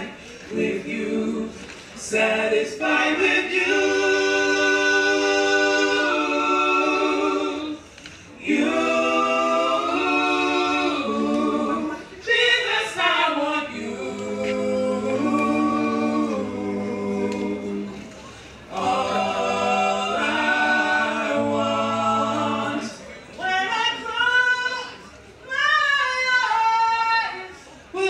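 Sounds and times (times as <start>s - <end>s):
gospel group singing in harmony: 0.0s - 28.0s.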